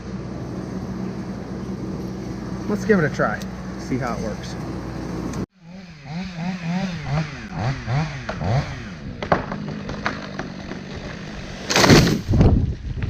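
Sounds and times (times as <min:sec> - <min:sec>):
chainsaw revving: 0:00.3 - 0:12.2.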